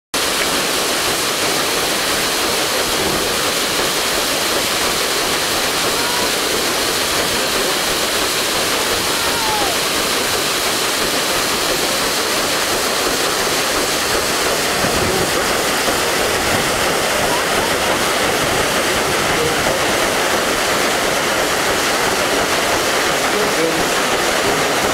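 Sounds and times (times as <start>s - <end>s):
paddle wheel churning water: 0.1s - 24.9s.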